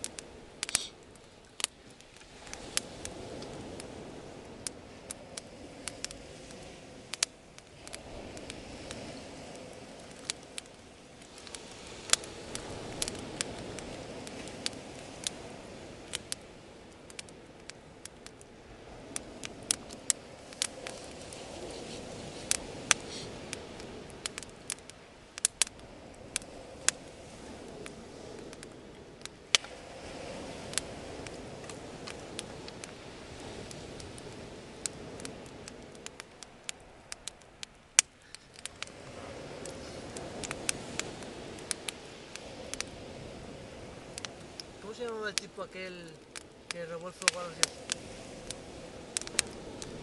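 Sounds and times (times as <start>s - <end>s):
bonfire crackling and popping: 0.0s - 50.0s
low rushing of fire: 0.0s - 50.0s.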